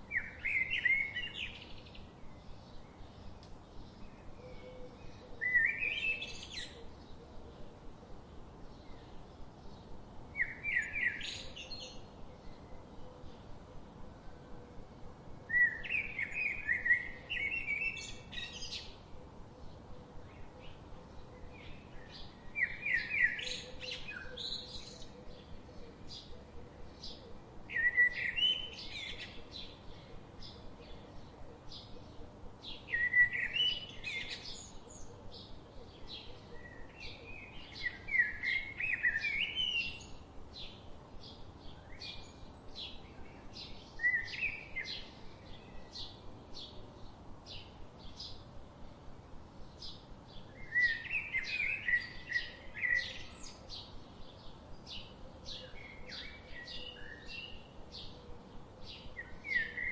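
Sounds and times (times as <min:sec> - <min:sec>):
songbirds warbling: 0:00.0 - 0:59.9.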